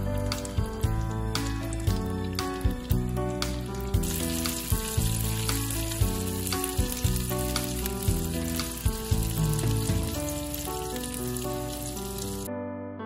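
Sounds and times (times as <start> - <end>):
background music with a beat: 0.0 - 11.0
food sizzling in oil: 0.0 - 12.5.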